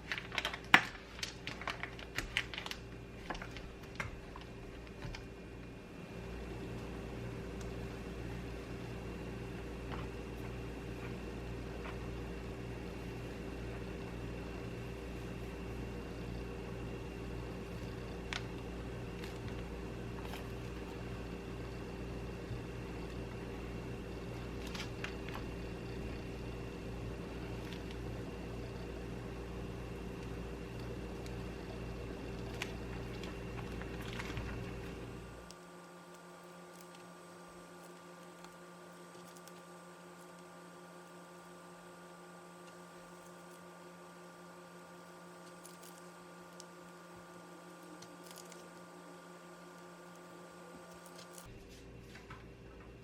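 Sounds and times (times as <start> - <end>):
appliance humming: 0.0 - 53.0
quieter high-pitched hum: 0.0 - 53.0.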